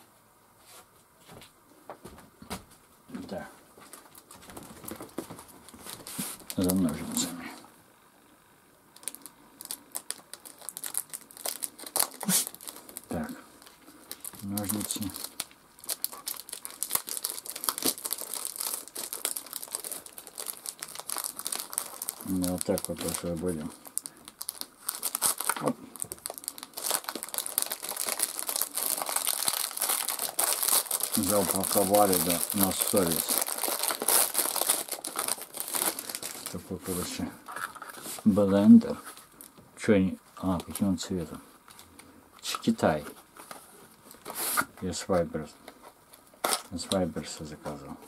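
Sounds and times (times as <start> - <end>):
packaging crinkling and tearing: 3.8 - 7.6, 8.9 - 39.6, 40.4 - 44.9, 45.7 - 47.9.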